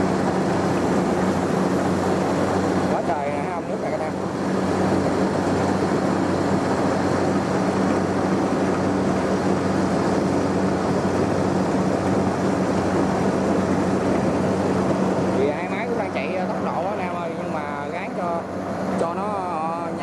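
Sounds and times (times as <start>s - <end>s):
floodwater rushing: 0.0s - 20.0s
low engine drone: 0.0s - 20.0s.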